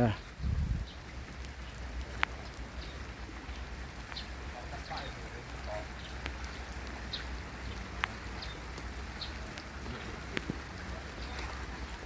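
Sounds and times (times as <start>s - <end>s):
rain falling: 0.0s - 12.0s
raindrop taps: 0.0s - 12.0s.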